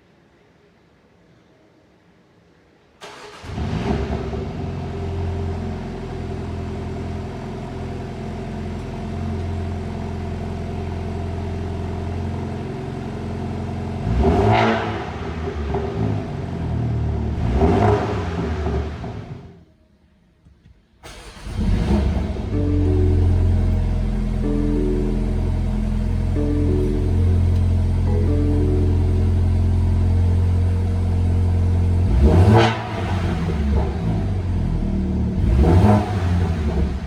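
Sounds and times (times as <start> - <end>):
car engine starting and idling: 3.0 - 19.6, 21.0 - 37.0.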